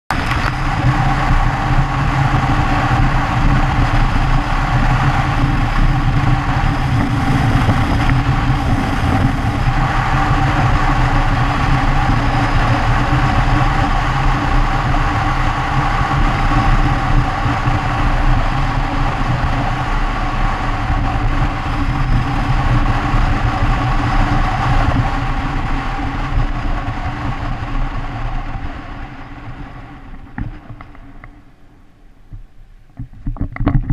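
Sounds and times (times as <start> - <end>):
motorcycle engine running: 0.1 - 33.9
wind and road noise: 0.1 - 33.9.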